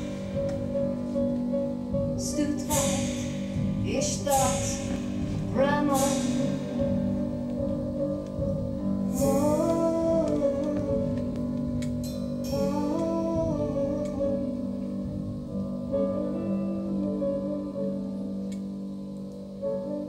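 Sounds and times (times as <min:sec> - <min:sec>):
slow instrumental band melody: 0:00.0 - 0:20.0.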